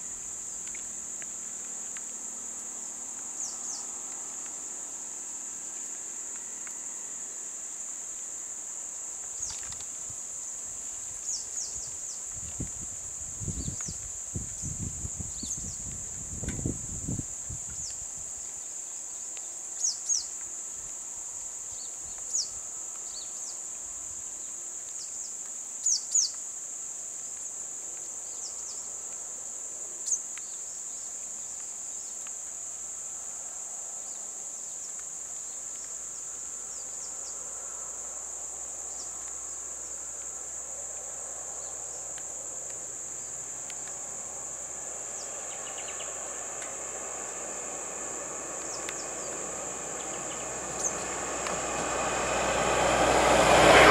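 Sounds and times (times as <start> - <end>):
insect drone: 0.0 - 53.9.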